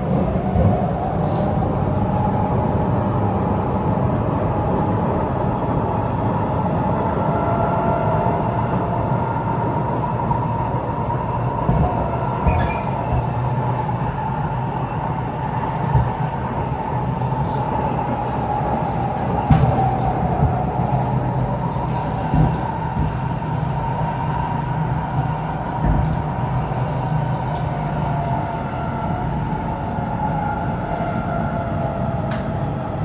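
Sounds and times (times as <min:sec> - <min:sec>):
train rolling rumble: 0:00.0 - 0:33.0.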